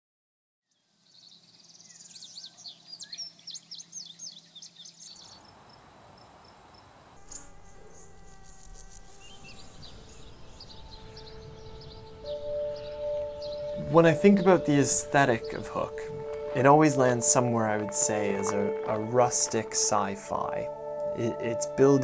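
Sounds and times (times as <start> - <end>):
birds chirping: 0.7 - 22.0
insects trilling: 1.8 - 21.9.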